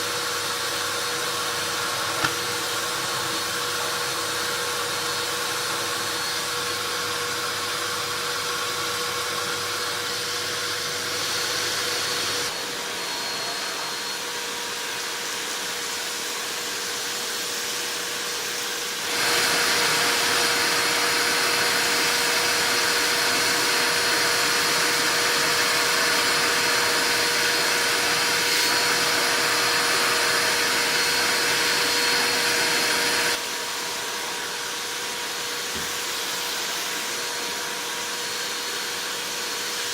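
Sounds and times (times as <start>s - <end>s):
vacuum cleaner whine: 0.0s - 39.9s.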